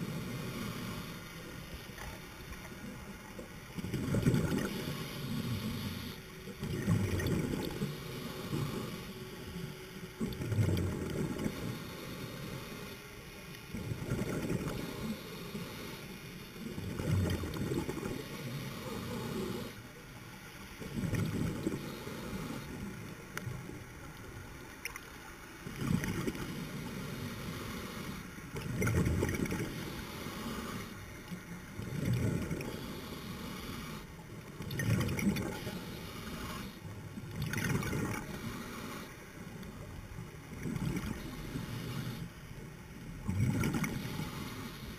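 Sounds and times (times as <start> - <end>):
underwater bubbles gurgling: 0.0 - 13.0, 13.6 - 19.8, 20.8 - 44.9.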